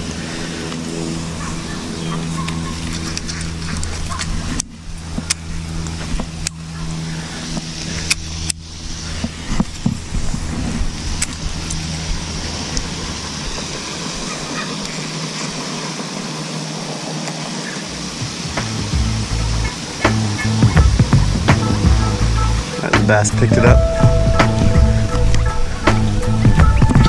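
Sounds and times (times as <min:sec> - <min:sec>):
constant hiss: 0:00.0 - 0:27.0
low engine hum: 0:00.0 - 0:27.0.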